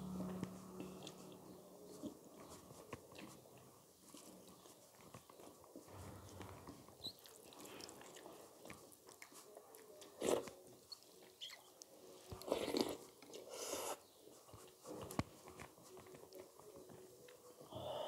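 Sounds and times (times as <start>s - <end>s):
person chewing food: 0.8s - 17.6s.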